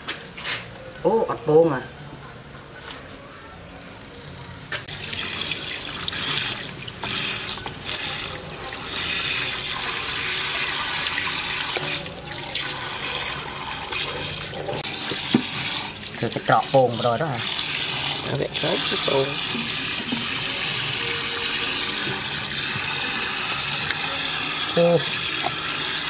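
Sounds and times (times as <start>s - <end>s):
running water: 4.9s - 26.0s.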